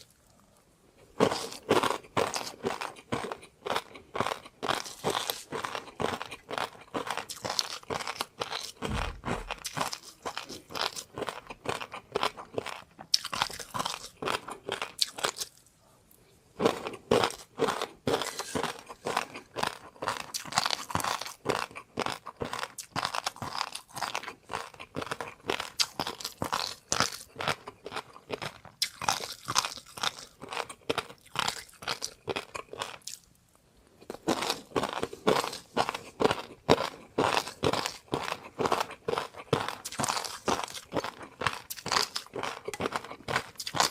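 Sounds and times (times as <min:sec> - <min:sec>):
person chewing and crunching food: 0:00.0 - 0:43.9.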